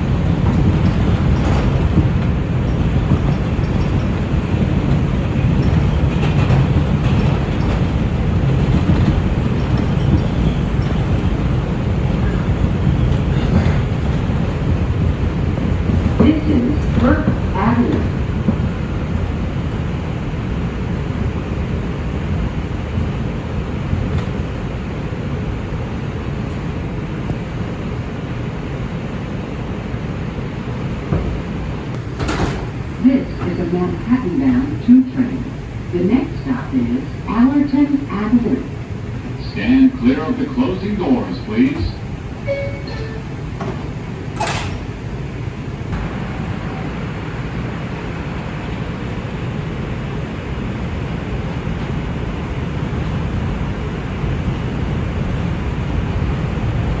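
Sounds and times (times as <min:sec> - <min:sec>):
subway car rumble and hiss: 0:00.0 - 0:57.0.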